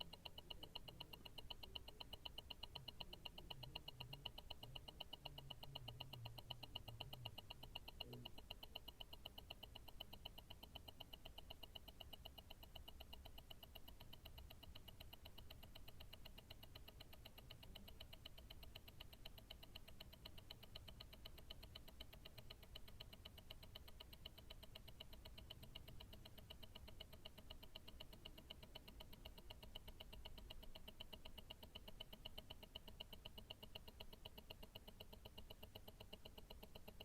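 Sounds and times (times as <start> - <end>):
watch ticking: 0.0 - 37.0.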